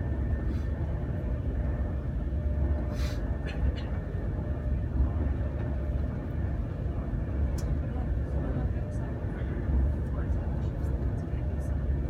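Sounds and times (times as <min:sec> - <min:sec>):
electric train low rumble: 0:00.0 - 0:12.0.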